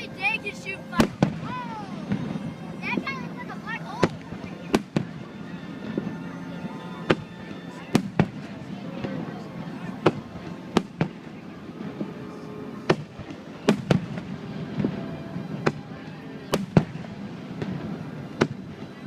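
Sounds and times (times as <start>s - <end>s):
music: 0.0s - 19.0s
voices: 0.0s - 19.0s
firework bangs: 0.3s - 6.1s, 7.1s - 19.0s.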